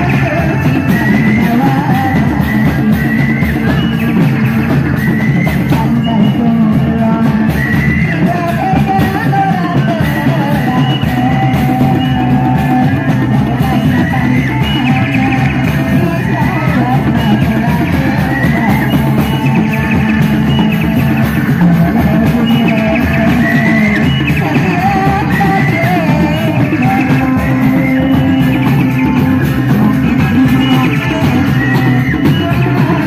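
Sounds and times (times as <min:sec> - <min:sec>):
drums beating: 0:00.0 - 0:33.0.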